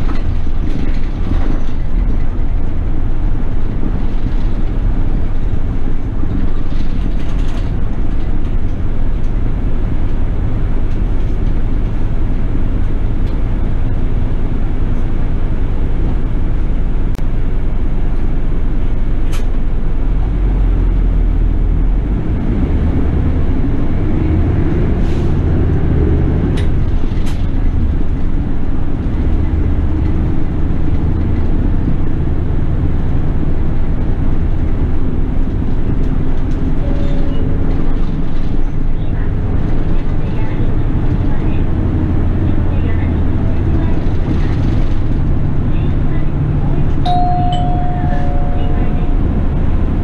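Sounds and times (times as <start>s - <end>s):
bus engine and road noise: 0.0s - 50.0s.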